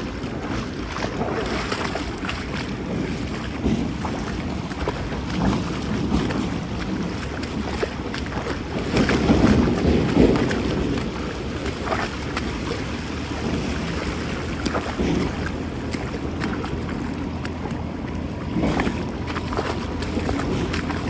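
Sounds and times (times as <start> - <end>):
water sloshing and splashing: 0.0 - 21.0
wind noise on microphone: 0.0 - 21.0.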